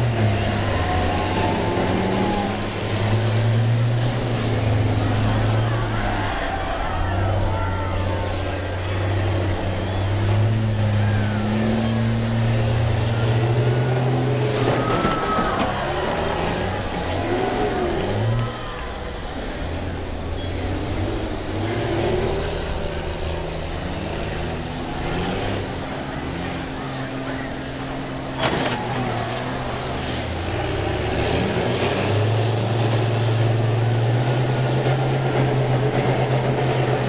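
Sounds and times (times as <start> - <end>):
bus engines revving: 0.0 - 37.0.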